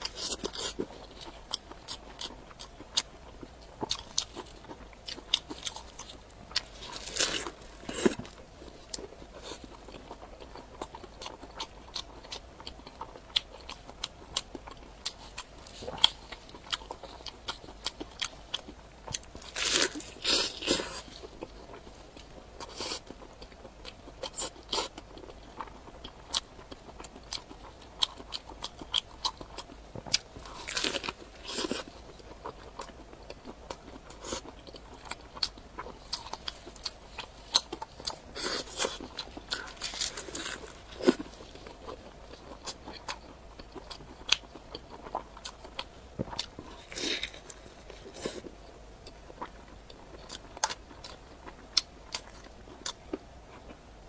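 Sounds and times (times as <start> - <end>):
crunchy chewing: 0.0 - 53.8.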